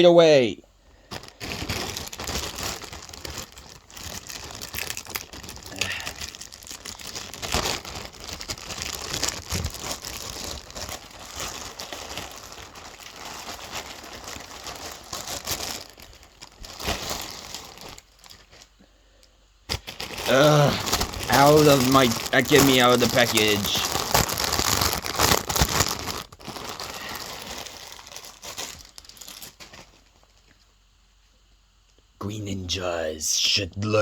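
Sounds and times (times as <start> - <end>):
packaging crinkling: 0.9 - 18.8, 19.7 - 30.8.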